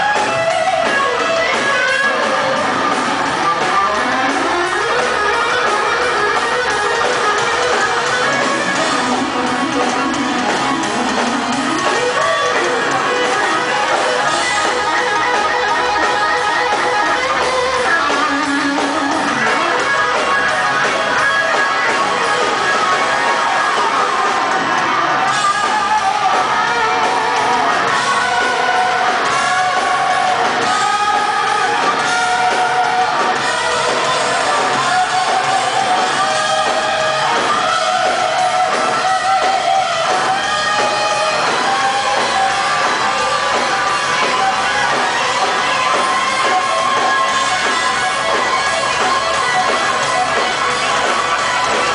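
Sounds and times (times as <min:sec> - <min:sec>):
electric guitar: 0:00.0 - 0:51.9
live rock band playing: 0:00.0 - 0:51.9.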